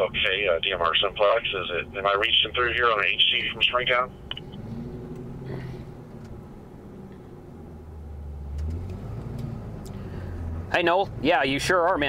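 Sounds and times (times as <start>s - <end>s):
vehicle engine from inside cabin: 0.0s - 12.0s.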